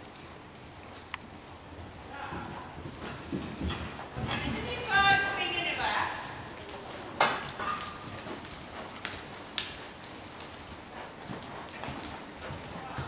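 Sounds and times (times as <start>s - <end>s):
hooves on soft sand: 0.1s - 13.0s.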